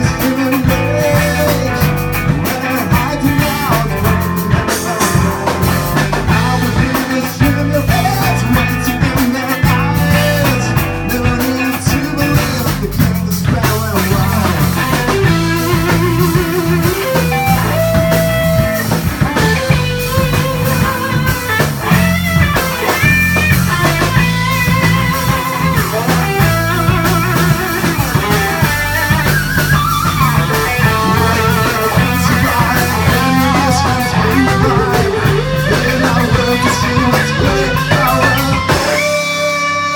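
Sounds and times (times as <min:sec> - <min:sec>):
bass guitar: 0:00.0 - 0:39.9
drum kit: 0:00.0 - 0:39.9
electric guitar bending notes: 0:00.0 - 0:39.9.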